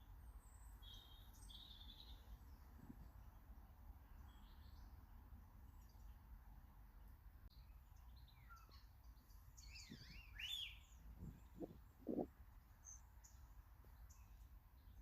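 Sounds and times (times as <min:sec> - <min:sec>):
small birds chirping: 0:00.0 - 0:06.4, 0:07.4 - 0:15.0.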